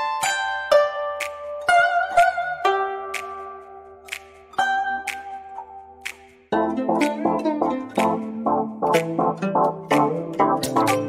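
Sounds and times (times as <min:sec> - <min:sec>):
background music with quick notes: 0:00.0 - 0:11.0.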